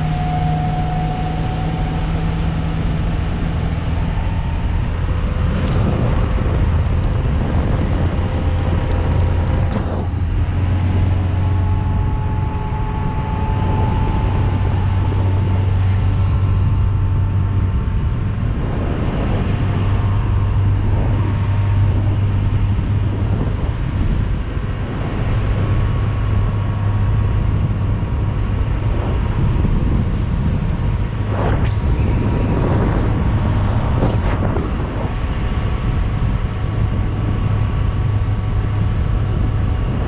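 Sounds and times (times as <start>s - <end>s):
boat engine running: 0.0s - 40.0s
wind and water rushing: 0.0s - 40.0s.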